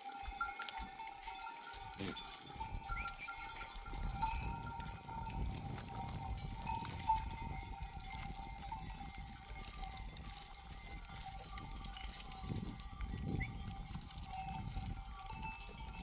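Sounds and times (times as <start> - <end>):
sheep bells clanking: 0.0 - 16.0.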